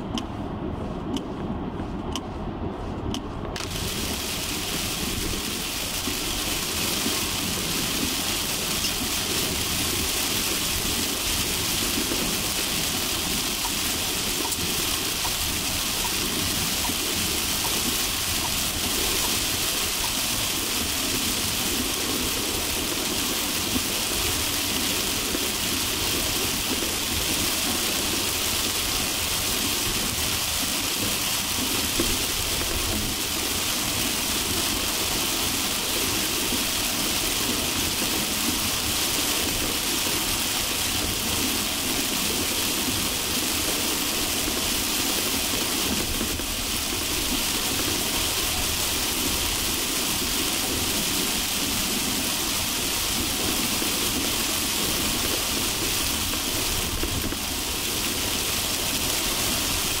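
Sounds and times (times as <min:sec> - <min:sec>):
car road and engine noise: 0:00.0 - 1:00.0
heavy rain on a car: 0:00.0 - 1:00.0.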